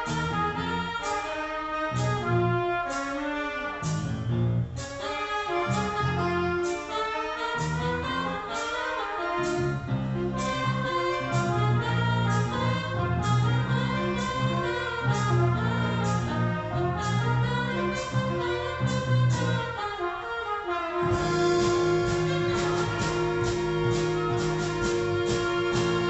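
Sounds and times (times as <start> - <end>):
school band playing: 0.0 - 26.0.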